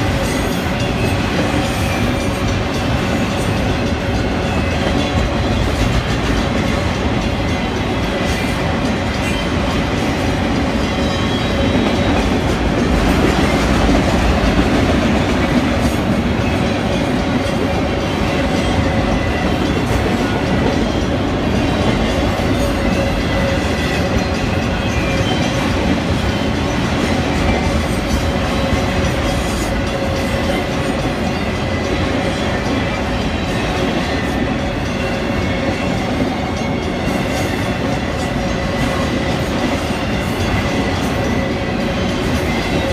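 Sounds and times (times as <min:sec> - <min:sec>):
freight train rolling past: 0:00.0 - 0:42.9
steel wheels clattering on rails: 0:00.0 - 0:42.9.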